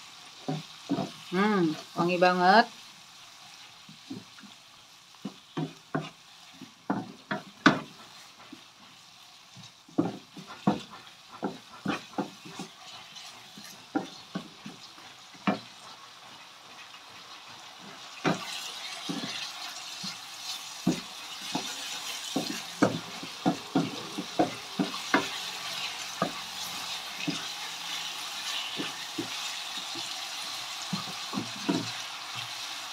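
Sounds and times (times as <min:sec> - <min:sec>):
low sizzle: 0:00.0 - 0:32.9
wooden spatula scraping a pan: 0:00.2 - 0:02.0, 0:05.2 - 0:32.9.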